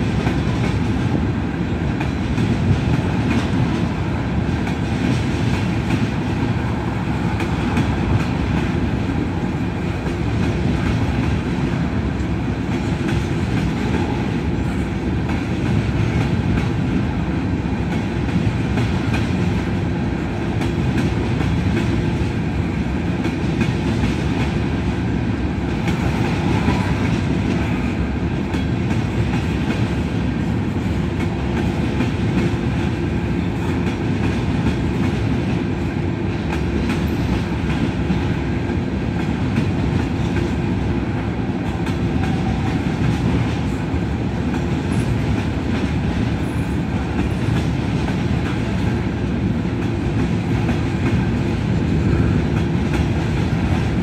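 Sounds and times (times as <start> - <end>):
clickety-clack of rail joints: 0.0 - 54.0
train wheels rumbling on rail: 0.0 - 54.0.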